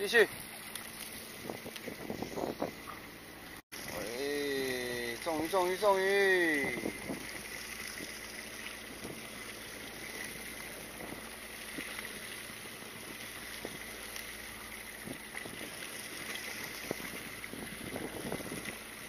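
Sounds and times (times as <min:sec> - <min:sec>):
wind and water rushing: 0:00.0 - 0:19.0.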